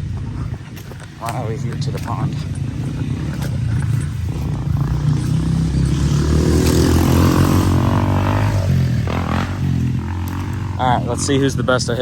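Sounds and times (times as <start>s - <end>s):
dirt bike engine revving: 1.3s - 12.0s.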